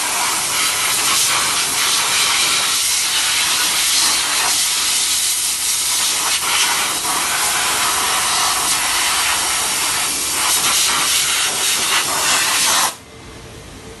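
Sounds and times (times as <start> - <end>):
steam cleaner hissing: 0.0 - 13.0.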